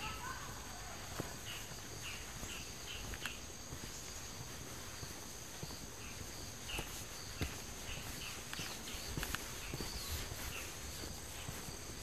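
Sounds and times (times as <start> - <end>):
footsteps on a path: 0.0 - 12.0
insects trilling: 0.0 - 12.0.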